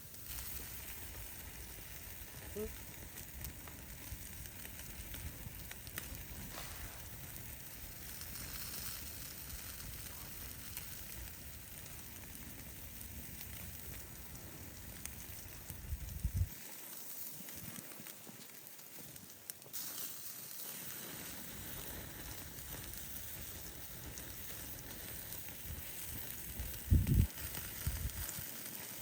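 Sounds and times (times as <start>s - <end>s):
campfire crackling: 0.0s - 29.0s
food sizzling: 0.0s - 29.0s.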